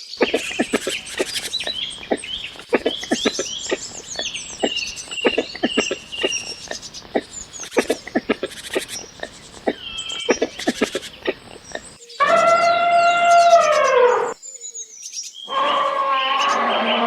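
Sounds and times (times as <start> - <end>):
birds chirping and calling: 0.0 - 15.5.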